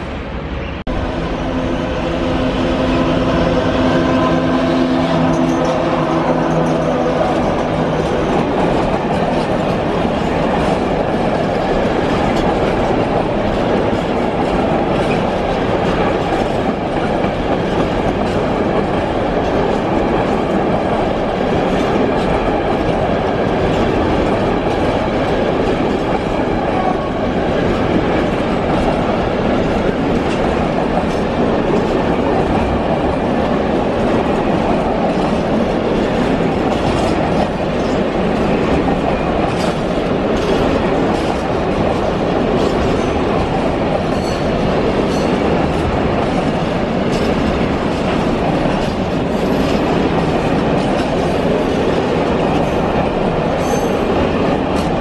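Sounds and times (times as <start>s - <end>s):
train wheels rumbling on rails: 0.0s - 55.0s
clickety-clack over rail joints: 2.4s - 55.0s.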